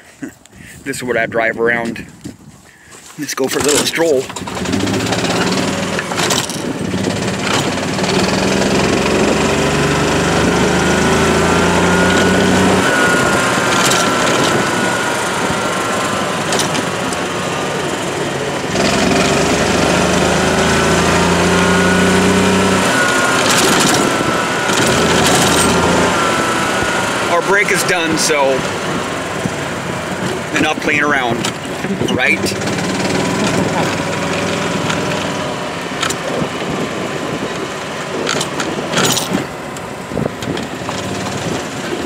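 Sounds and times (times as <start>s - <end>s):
small cart engine running: 3.5s - 42.0s.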